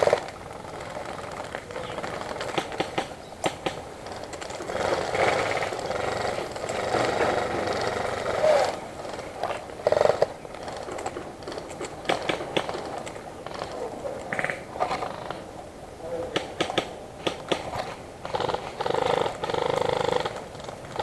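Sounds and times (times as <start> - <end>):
tall grass rustling: 0.0 - 21.0.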